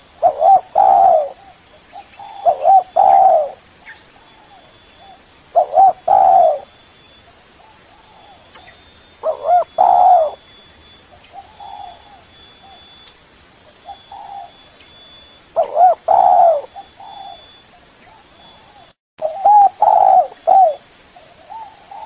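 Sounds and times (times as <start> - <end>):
dove cooing: 0.0 - 3.6, 4.2 - 6.8, 7.6 - 13.0, 13.8 - 22.0.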